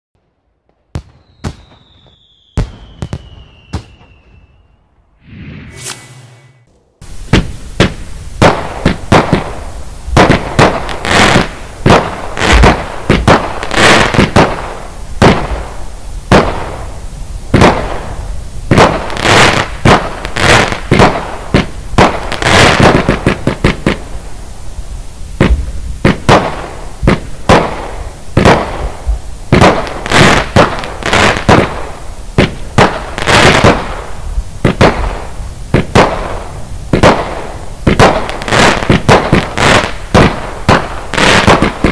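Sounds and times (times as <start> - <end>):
firework cake shots and bangs: 0.8 - 4.5, 7.3 - 16.9, 17.5 - 24.0, 25.4 - 41.9.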